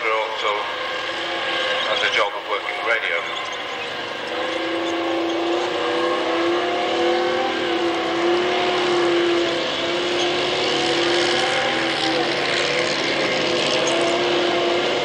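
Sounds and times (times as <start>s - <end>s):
tank engine humming: 0.0s - 15.0s
tank tracks rumbling: 0.0s - 15.0s.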